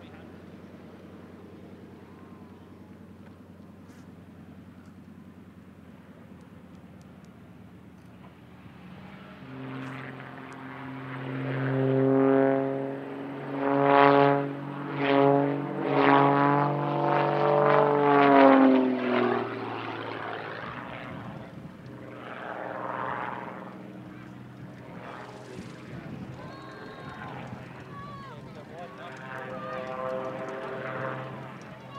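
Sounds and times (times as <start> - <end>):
propeller aircraft engines droning: 0.0 - 31.9.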